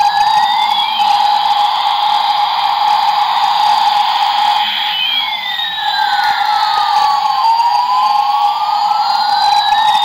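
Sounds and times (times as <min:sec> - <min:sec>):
electronic siren sweep: 0:00.0 - 0:10.0.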